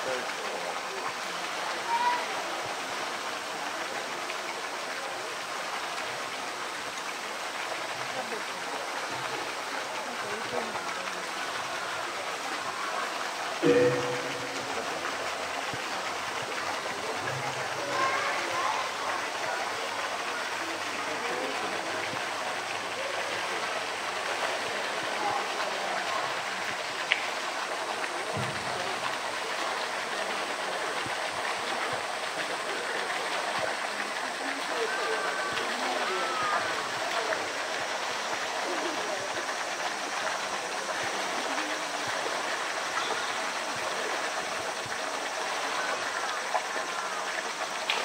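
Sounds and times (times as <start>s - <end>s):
running water: 0.0s - 48.0s
murmuring voices: 8.1s - 48.0s.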